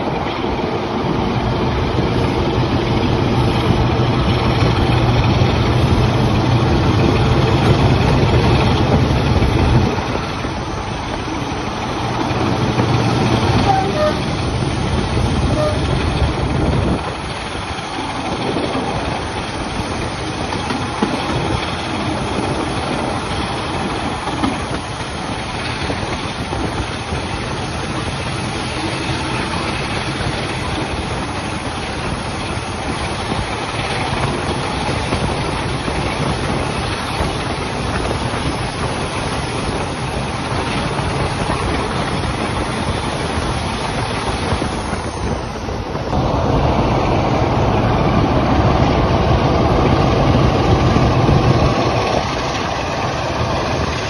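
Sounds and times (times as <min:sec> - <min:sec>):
diesel locomotive engine: 0:00.0 - 0:54.0
train wheels rolling on rails: 0:00.0 - 0:54.0.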